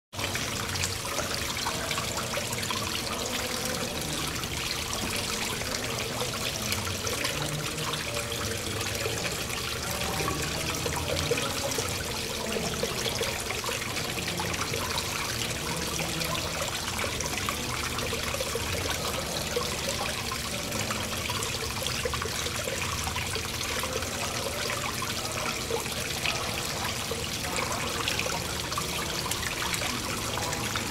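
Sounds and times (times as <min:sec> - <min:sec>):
fountain water trickling and splashing: 0:00.1 - 0:30.9.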